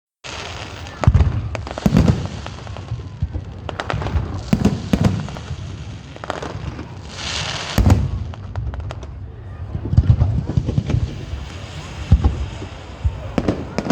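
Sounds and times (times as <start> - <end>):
fireworks banging: 0.2 - 13.9
fireworks crackling: 0.2 - 13.9.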